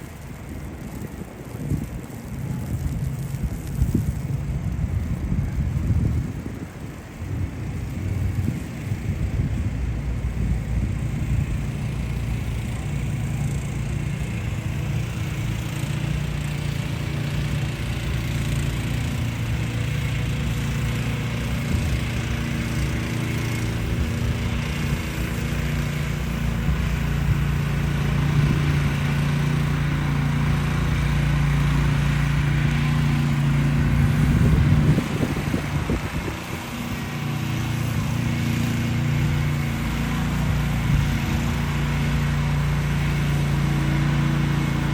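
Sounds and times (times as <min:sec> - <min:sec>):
street traffic: 0:00.0 - 0:44.9
vehicle engine running: 0:00.0 - 0:44.9.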